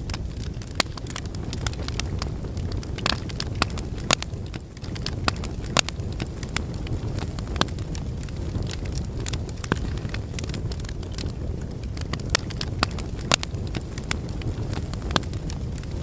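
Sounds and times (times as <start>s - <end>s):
fire crackles and pops: 0.0s - 16.0s
logs burning in fireplace: 0.0s - 16.0s.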